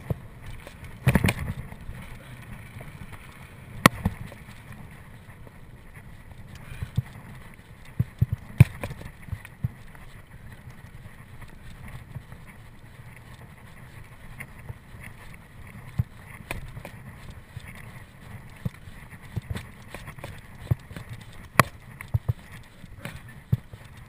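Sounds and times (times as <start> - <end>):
bike knocking and rattling: 0.0 - 24.0.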